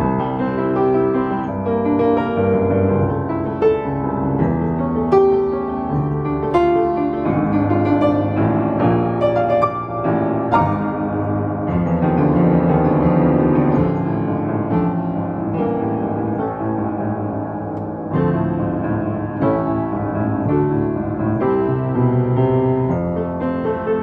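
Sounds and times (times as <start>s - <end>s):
slow solo piano piece: 0.0s - 24.0s.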